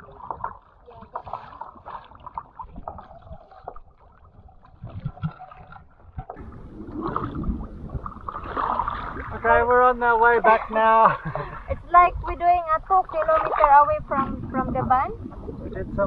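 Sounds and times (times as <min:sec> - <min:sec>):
paddle splashes and drips: 0:00.0 - 0:16.0
waves lapping against kayak: 0:00.0 - 0:16.0.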